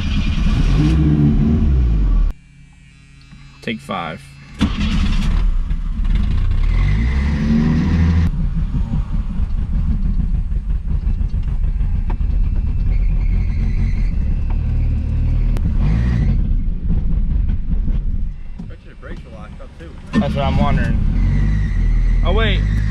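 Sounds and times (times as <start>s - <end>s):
car engine revving: 0.0s - 2.4s, 3.0s - 22.9s.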